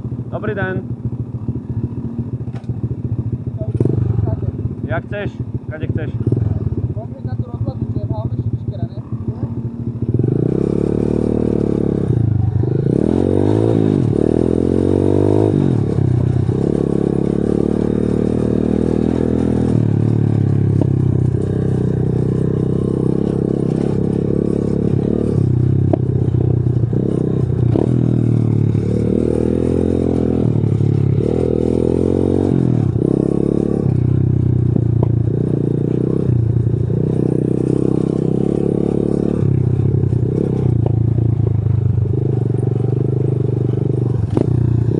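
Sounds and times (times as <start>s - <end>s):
motorbike engine revving: 0.0s - 44.9s
bike rattling and scraping: 0.1s - 44.9s.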